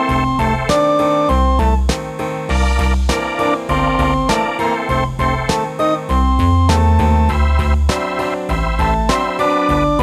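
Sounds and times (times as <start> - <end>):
instrumental background music: 0.0 - 10.0
deep bass line: 1.3 - 10.0.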